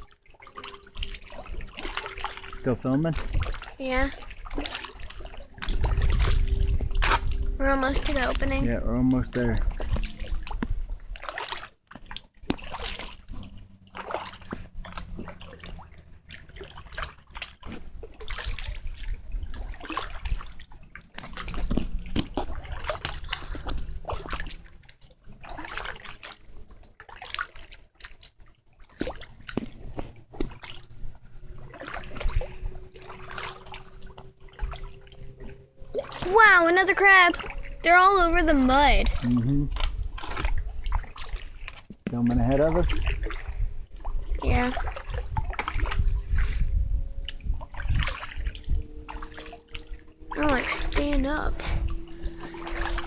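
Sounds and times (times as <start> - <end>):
paddle splashing in water: 0.0 - 53.0
water trickling and dripping: 0.0 - 53.0.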